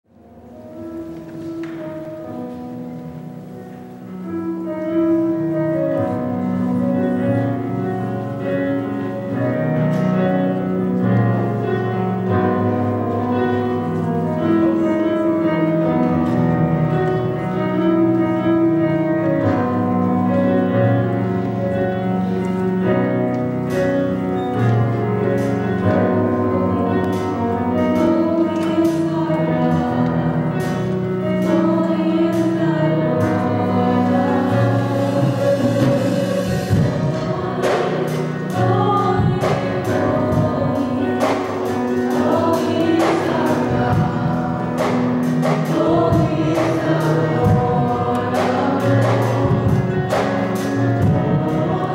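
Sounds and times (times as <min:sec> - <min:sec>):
slow instrumental music of held chords: 0:00.2 - 0:51.9.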